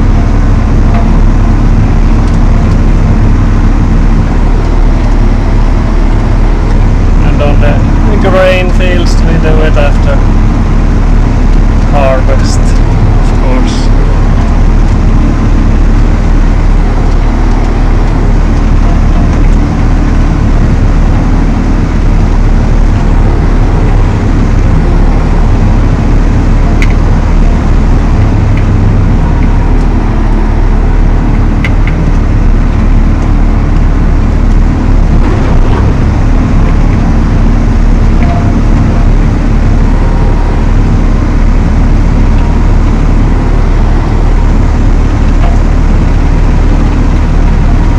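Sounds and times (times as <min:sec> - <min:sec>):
tractor engine running under load: 0:00.0 - 0:47.9.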